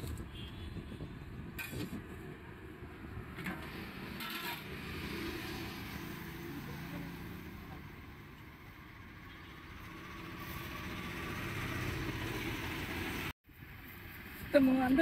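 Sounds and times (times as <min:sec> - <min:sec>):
vehicles passing: 0:01.2 - 0:15.0.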